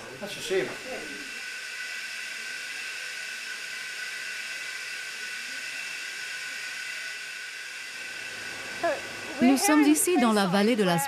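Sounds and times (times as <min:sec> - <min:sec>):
steady hiss: 0:00.0 - 0:10.9
high whining machinery tones: 0:00.0 - 0:11.0.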